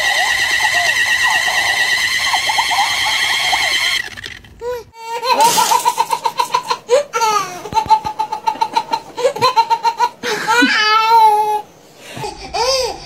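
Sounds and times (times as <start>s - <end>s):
baby laughing: 0.0s - 13.0s.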